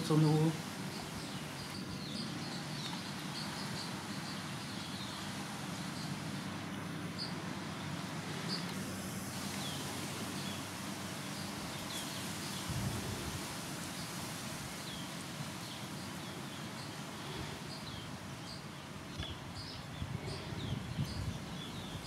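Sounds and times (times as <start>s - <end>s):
birds chirping: 0.0s - 13.2s, 13.8s - 22.0s
outdoor background hiss: 0.0s - 22.0s.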